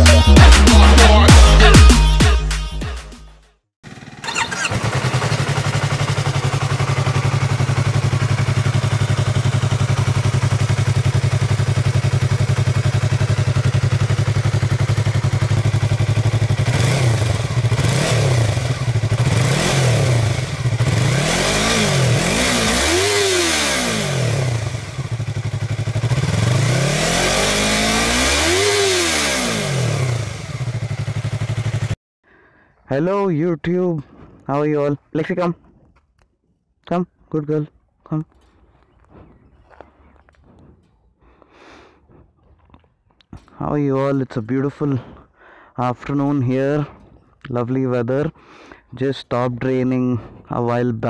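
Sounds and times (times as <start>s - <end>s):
motorcycle engine idling and revving: 0.0s - 2.5s, 3.2s - 32.6s, 36.9s - 51.0s.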